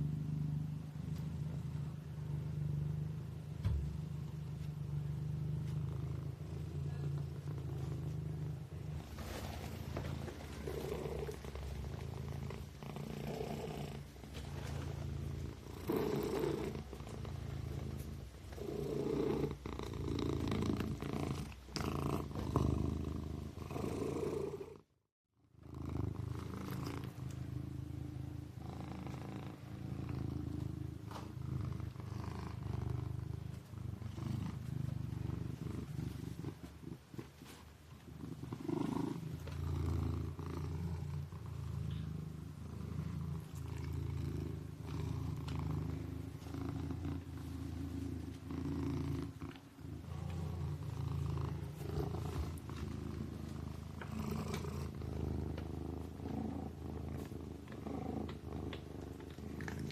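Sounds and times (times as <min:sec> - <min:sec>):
kitten purring: 0:00.0 - 0:59.9.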